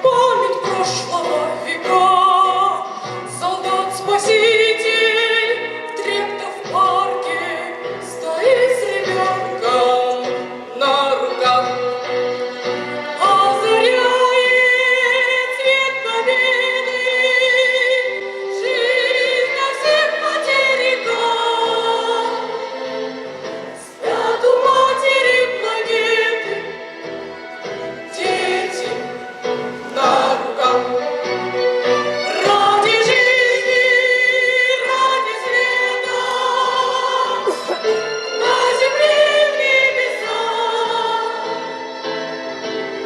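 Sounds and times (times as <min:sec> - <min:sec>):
choir singing with vibrato: 0:00.0 - 0:43.0.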